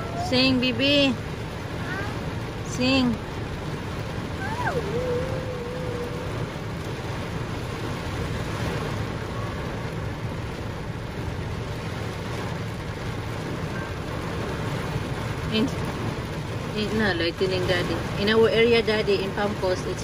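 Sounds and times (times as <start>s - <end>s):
heavy rain on vehicle roof: 0.0s - 20.0s.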